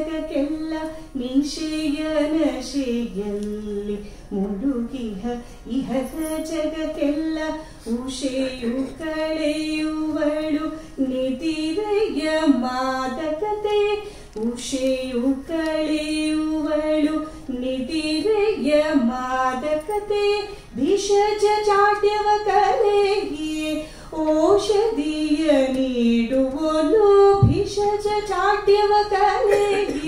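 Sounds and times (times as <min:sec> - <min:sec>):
woman singing unaccompanied: 0:00.0 - 0:30.0.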